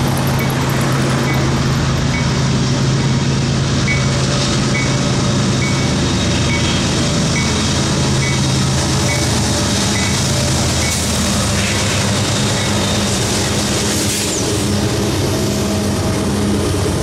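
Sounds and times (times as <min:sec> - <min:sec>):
diesel locomotive engines droning: 0:00.0 - 0:17.0
train rumble: 0:00.0 - 0:17.0.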